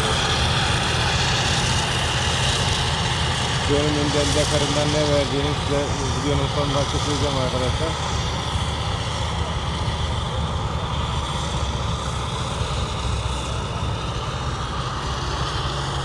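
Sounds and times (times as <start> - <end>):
forage harvester machine drone: 0.0 - 16.0.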